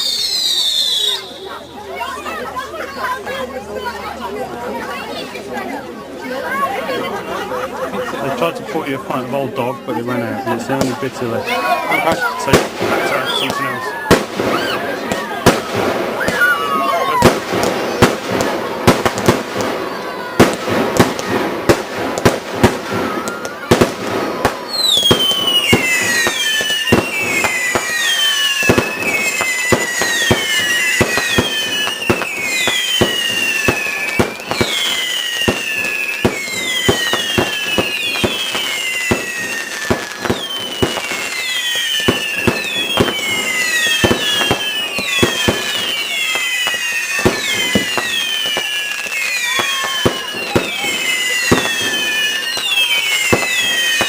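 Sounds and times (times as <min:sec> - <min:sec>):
whistling fireworks: 0:00.0 - 0:09.0, 0:09.9 - 0:54.0
firework bangs and crackles: 0:00.0 - 0:54.0.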